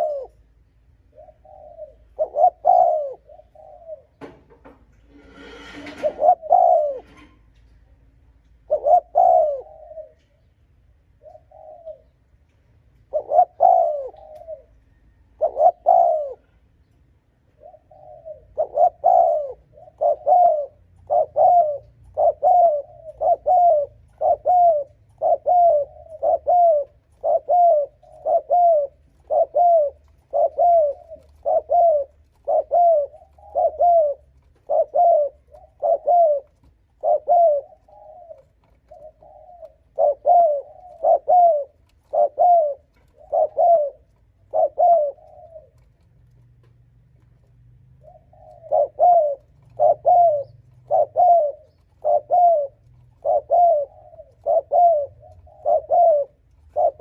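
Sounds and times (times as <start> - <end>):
dove cooing: 0.0 - 7.6, 8.5 - 57.0.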